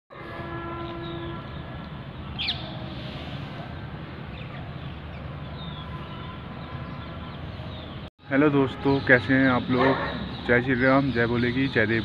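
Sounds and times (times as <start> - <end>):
birds chirping: 0.7 - 2.8, 3.5 - 12.0.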